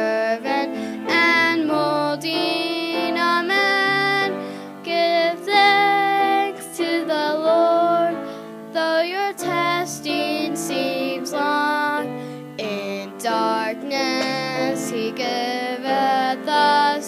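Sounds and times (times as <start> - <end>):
instrumental accompaniment: 0.0 - 17.0
person singing a hymn: 0.0 - 17.0.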